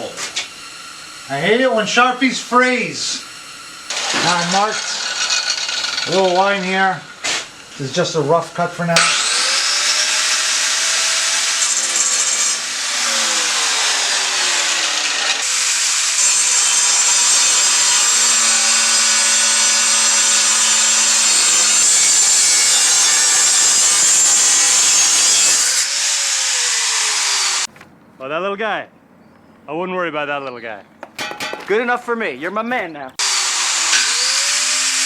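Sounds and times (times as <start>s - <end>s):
power tool cutting steel: 0.0s - 8.2s, 8.9s - 27.7s, 33.2s - 35.0s.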